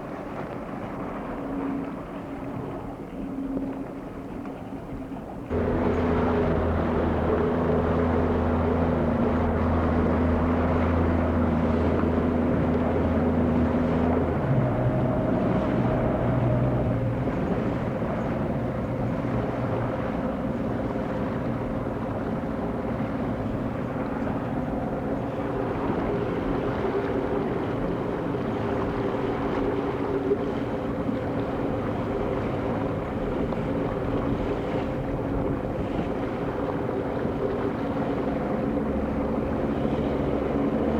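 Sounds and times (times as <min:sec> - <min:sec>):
motorboat engine running: 0:00.0 - 0:40.9
rush of wind and water: 0:00.0 - 0:40.9.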